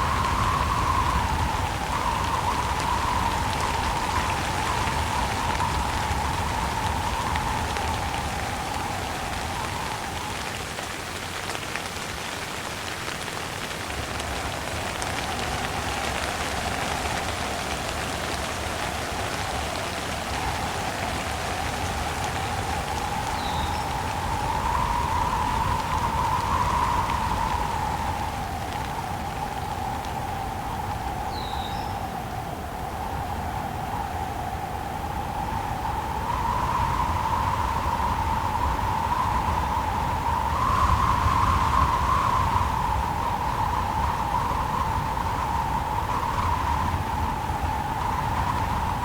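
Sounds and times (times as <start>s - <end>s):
steady rain falling: 0.0s - 49.0s
wind: 0.0s - 49.0s.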